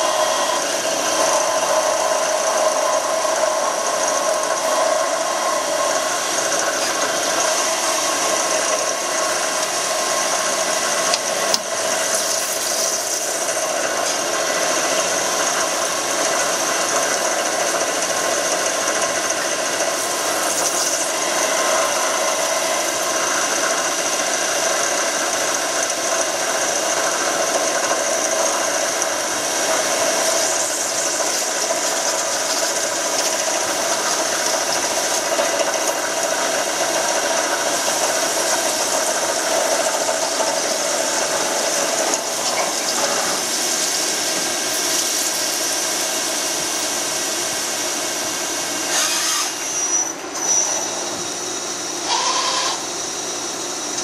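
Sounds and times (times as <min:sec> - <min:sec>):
machine running: 0:00.0 - 0:54.0.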